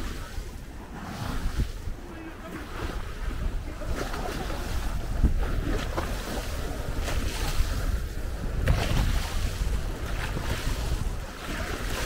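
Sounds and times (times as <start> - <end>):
waves splashing: 0.0 - 12.0
wind buffeting microphone: 0.0 - 12.0.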